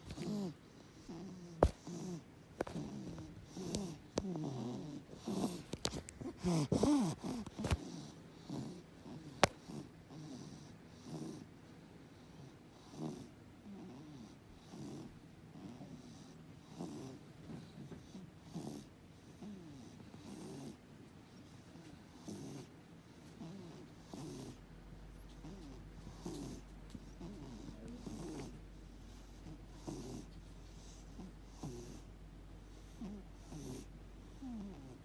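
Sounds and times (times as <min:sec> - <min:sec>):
cat breathing with rattly wheeze: 0:00.0 - 0:11.5, 0:14.6 - 0:24.6, 0:25.2 - 0:35.0.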